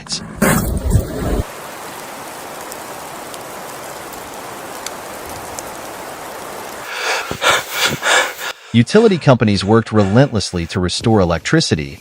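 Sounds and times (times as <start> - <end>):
steady hiss: 1.4 - 12.0.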